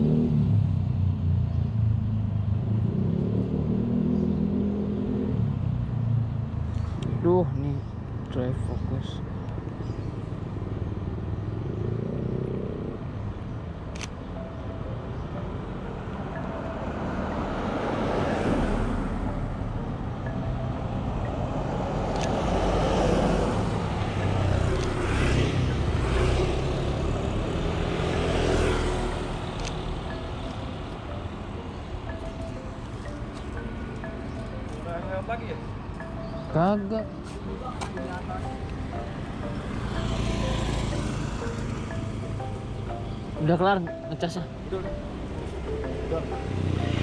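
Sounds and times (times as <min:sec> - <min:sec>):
outdoor background noise: 0:00.0 - 0:47.0
vehicles passing: 0:00.0 - 0:47.0.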